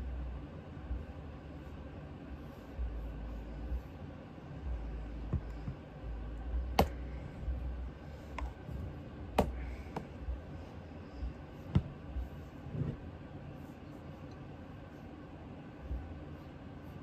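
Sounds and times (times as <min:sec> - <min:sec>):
pad rubbing on metal: 0:00.9 - 0:15.2.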